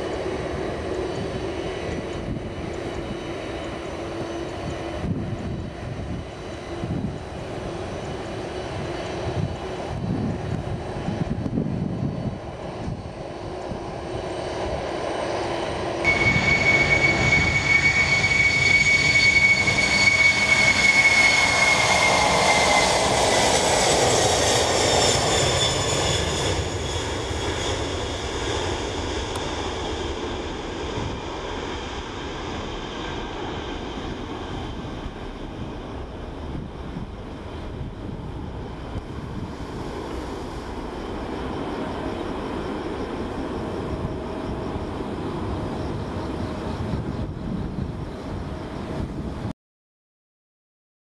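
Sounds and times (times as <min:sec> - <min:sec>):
jet engines roaring: 0:00.0 - 0:49.5.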